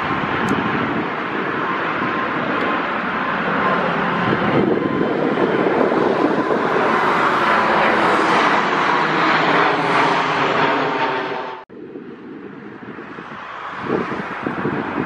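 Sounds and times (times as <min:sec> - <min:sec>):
jet airliner roaring overhead: 0:00.0 - 0:15.0.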